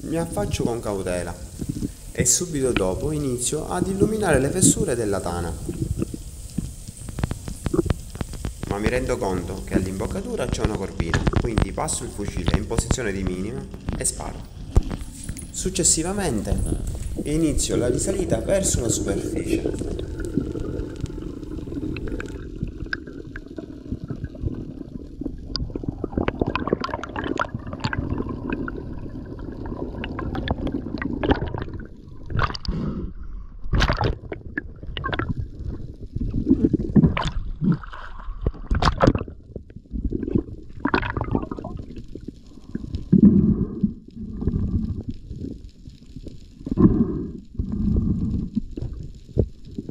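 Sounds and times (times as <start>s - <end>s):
water gurgling and sloshing: 0.0s - 32.7s, 33.6s - 45.5s
underwater water rush: 0.0s - 32.8s, 33.7s - 49.9s.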